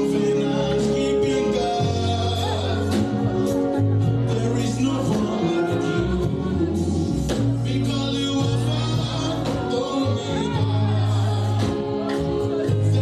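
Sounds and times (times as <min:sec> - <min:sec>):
bass line: 0:00.0 - 0:13.0
person singing: 0:00.0 - 0:13.0.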